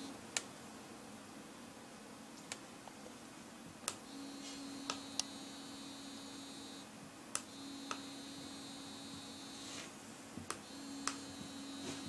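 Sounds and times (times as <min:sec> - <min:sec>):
receiver buzzing with faint whine: 0:00.0 - 0:01.4, 0:02.2 - 0:12.0.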